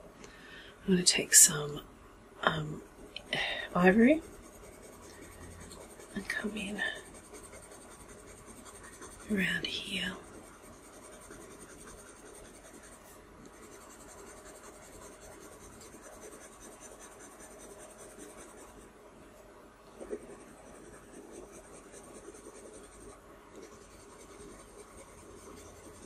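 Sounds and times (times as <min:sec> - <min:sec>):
pencil scratching on paper: 0:03.4 - 0:18.9, 0:20.0 - 0:26.0.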